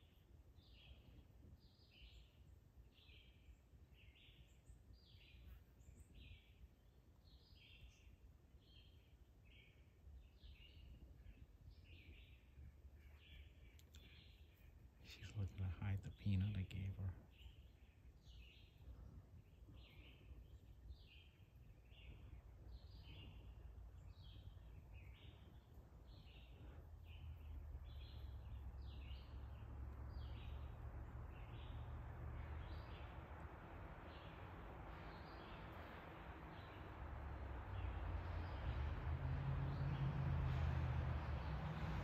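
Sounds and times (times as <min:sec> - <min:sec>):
songbird chirping faintly: 0:00.0 - 0:42.0.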